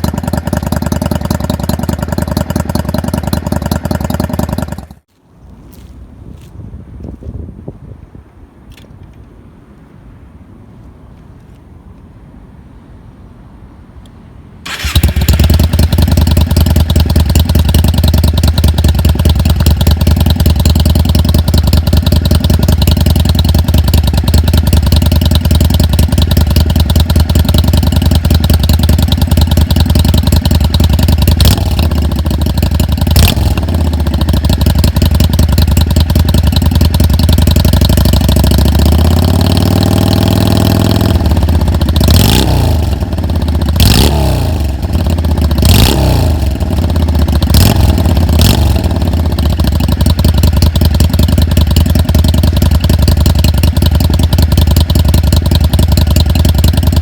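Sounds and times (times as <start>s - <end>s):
motorcycle engine idling and revving: 0.0s - 5.1s, 14.6s - 57.0s.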